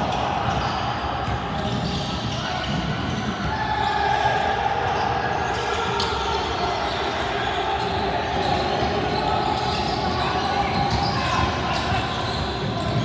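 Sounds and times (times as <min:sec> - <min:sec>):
echoing crowd noise: 0:00.0 - 0:13.0.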